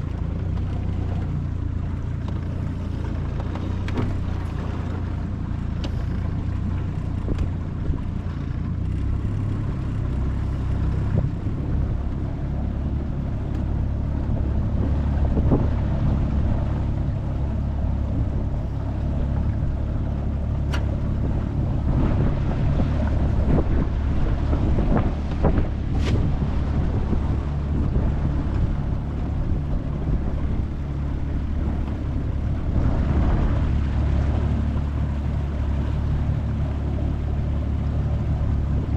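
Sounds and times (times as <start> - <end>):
outboard motor running: 0.0 - 38.9
wind on microphone: 1.8 - 38.9.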